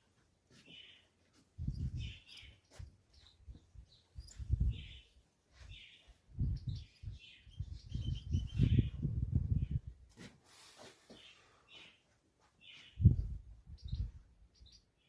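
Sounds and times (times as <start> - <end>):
small birds chirping: 0.5 - 10.0, 10.8 - 15.0.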